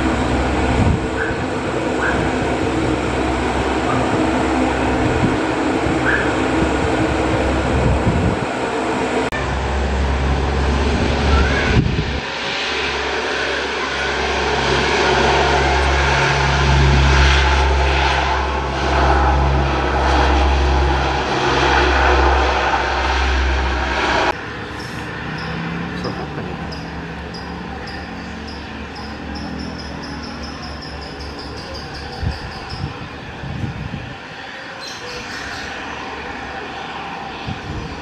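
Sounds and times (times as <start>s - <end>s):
turboprop engines droning: 0.0s - 38.0s.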